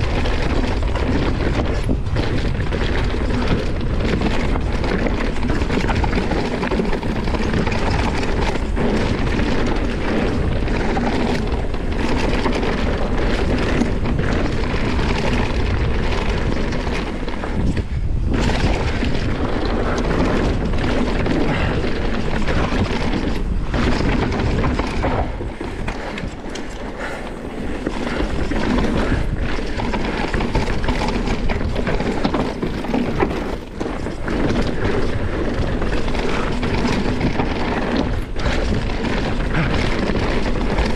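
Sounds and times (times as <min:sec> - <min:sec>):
bike knocking over bumps: 0:00.0 - 0:40.9
tyres rolling on dirt: 0:00.0 - 0:40.9
wind buffeting microphone: 0:00.0 - 0:40.9.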